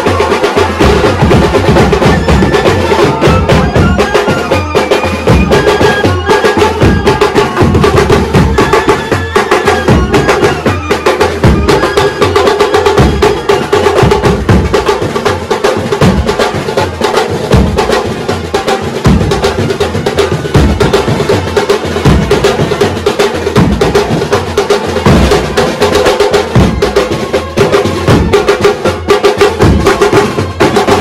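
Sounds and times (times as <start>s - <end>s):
bass drums beaten with mallets: 0.0s - 16.8s, 17.4s - 31.0s.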